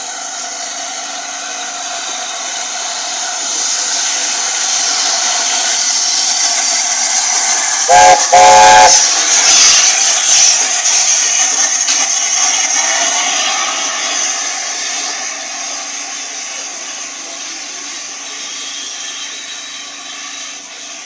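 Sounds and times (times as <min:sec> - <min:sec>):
steam train passing: 0:00.0 - 0:21.0.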